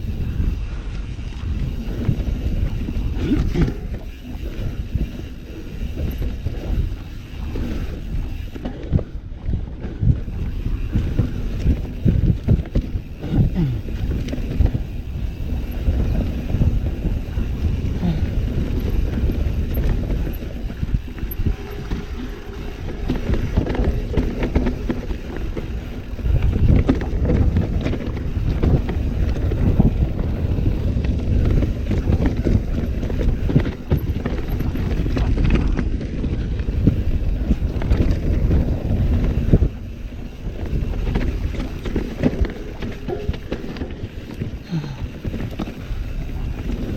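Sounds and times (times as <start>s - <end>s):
bike rattles and knocks: 0.0s - 46.9s
bike tyre noise: 0.0s - 46.9s
wind rushing on microphone: 0.0s - 46.9s.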